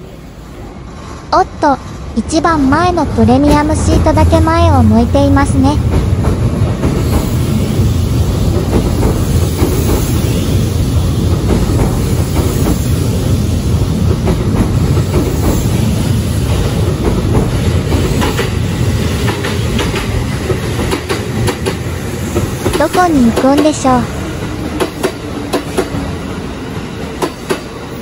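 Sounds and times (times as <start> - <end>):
electric train rumbling past: 0.0 - 28.0.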